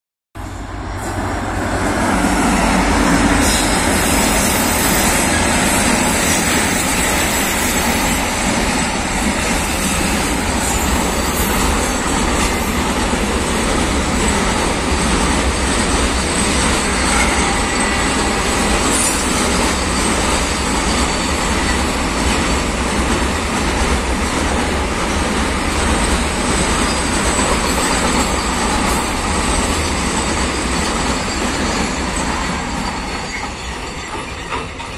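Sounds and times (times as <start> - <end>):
freight train wheels rumbling: 0.4 - 34.9.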